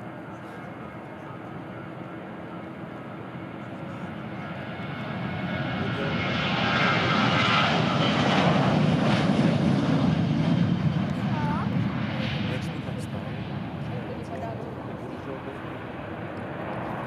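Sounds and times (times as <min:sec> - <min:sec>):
jet engine whine: 0:00.0 - 0:17.0
jet engines at takeoff: 0:00.0 - 0:17.0.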